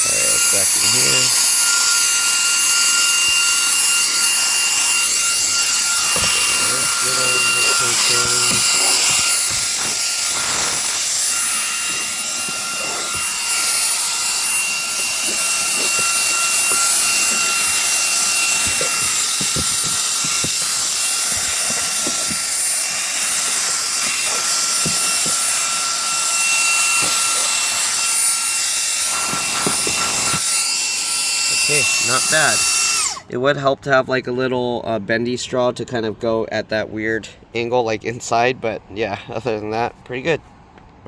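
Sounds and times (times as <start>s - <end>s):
nozzle knocking and scraping: 0.0s - 33.2s
handheld vacuum whining: 0.0s - 33.3s.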